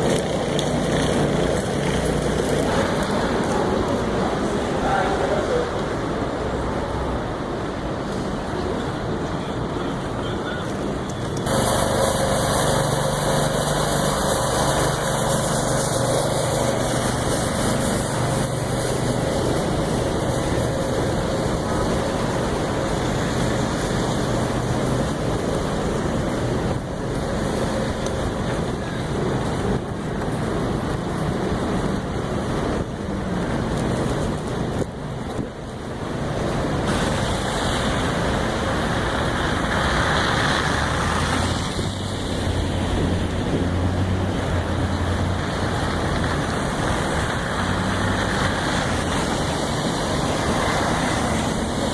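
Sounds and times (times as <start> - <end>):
constant rushing noise: 0.0 - 51.9
engine running steadily: 0.0 - 51.9.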